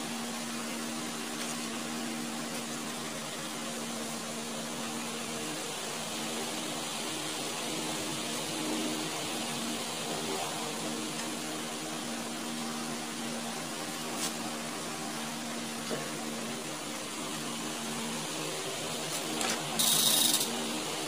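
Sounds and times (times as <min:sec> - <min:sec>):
machine hum with hiss: 0:00.0 - 0:21.0.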